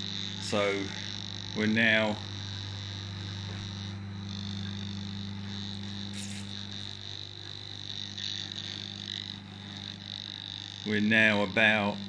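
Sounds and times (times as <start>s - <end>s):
high whine: 0.0s - 12.0s
meter buzzing hum: 0.0s - 12.0s.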